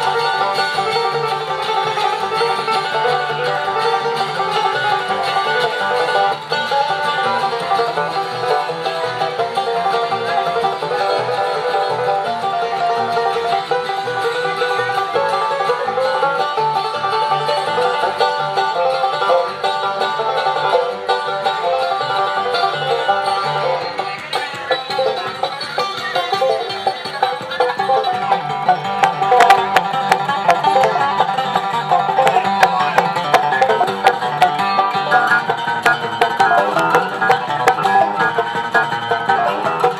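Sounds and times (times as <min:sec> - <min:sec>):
banjo: 0:00.0 - 0:39.9
bluegrass string band playing: 0:00.0 - 0:39.9.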